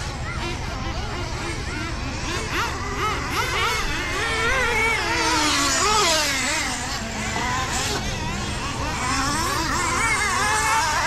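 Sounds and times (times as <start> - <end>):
rc truck engines revving: 0.0 - 11.0.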